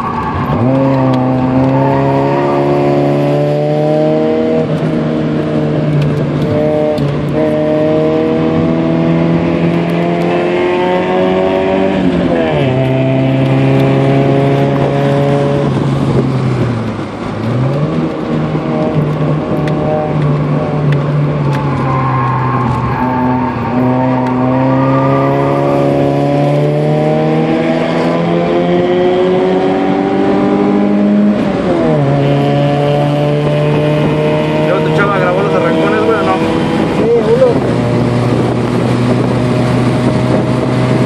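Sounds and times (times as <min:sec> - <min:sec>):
car engine revving in cabin: 0:00.6 - 0:22.0, 0:22.6 - 0:41.0.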